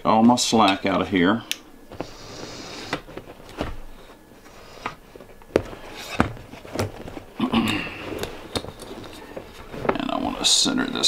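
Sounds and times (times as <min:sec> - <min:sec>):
rustling blind pleats: 0:01.9 - 0:11.0.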